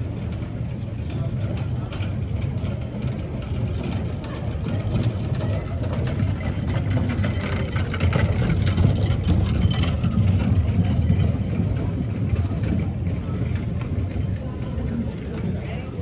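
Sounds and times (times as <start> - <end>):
low engine-like rumble: 0.0 - 16.0
murmur of voices: 0.0 - 16.0.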